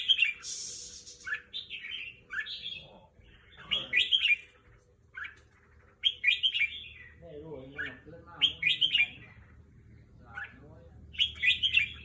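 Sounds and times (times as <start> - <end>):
bulbul singing warbled phrases: 0.0 - 12.0.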